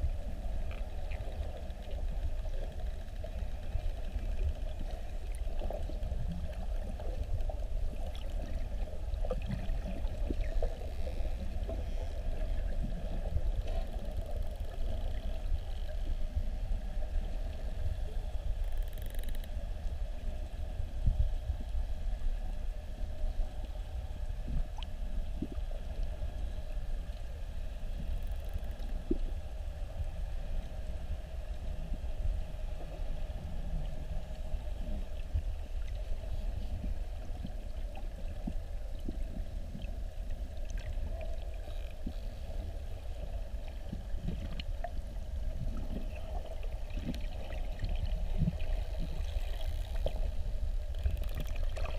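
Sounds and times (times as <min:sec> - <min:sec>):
faint underwater clicks: 0:00.0 - 0:21.8, 0:23.6 - 0:51.9
underwater rumble of moving water: 0:00.0 - 0:51.9.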